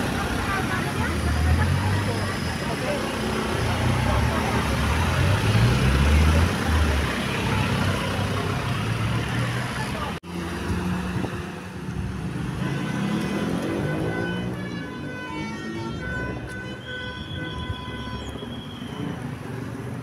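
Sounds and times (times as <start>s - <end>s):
bus engine rumbling and revving: 0.0s - 20.0s.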